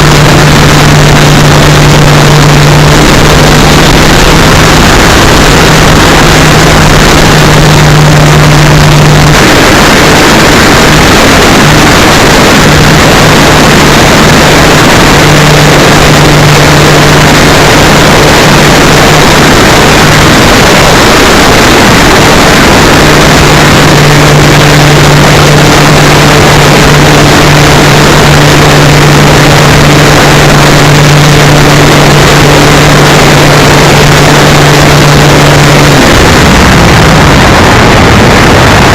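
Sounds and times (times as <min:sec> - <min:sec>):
electric model plane propeller drone: 0:00.0 - 0:38.9
wind rush on microphone: 0:00.0 - 0:38.9.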